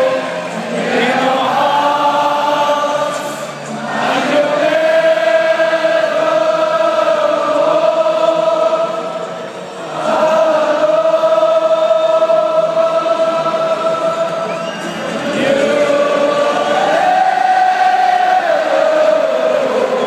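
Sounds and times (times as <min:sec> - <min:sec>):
crowd singing in unison: 0:00.0 - 0:20.0.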